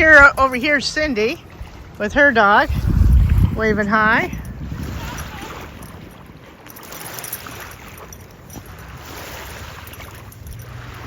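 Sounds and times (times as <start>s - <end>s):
water lapping at shore: 0.0s - 11.0s
wind on microphone: 0.0s - 11.0s.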